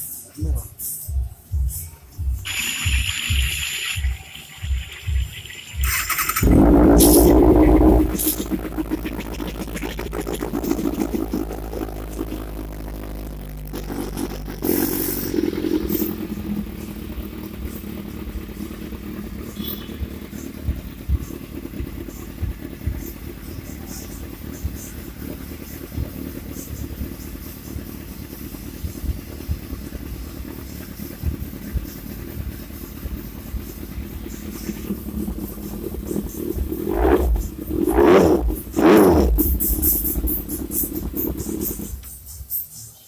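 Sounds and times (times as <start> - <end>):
motorcycle idling with low burble: 0.0 - 43.0
motorcycle revving: 2.2 - 42.8.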